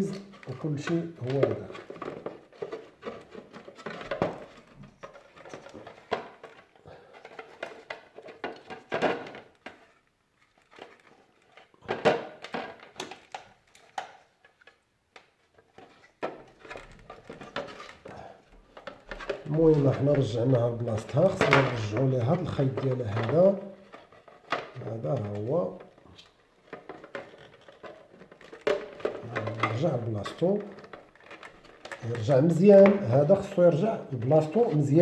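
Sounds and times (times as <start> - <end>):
plastic and metal parts clicking: 0.0 - 35.0.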